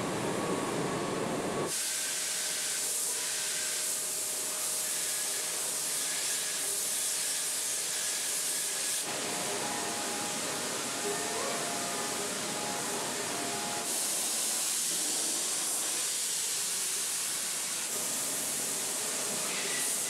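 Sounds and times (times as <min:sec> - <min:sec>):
low factory noise: 0:00.0 - 0:20.0
paint robots spraying hiss: 0:01.7 - 0:20.0.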